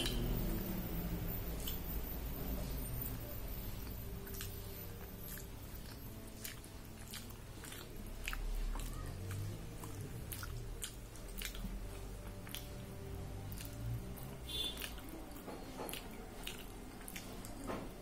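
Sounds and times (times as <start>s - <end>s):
person chewing food: 0.0s - 0.8s, 1.4s - 18.0s.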